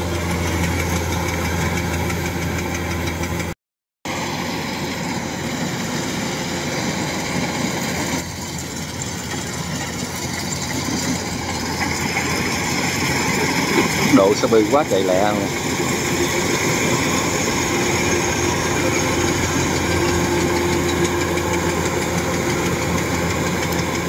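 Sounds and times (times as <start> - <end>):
combine harvester diesel engine: 0.0 - 24.0.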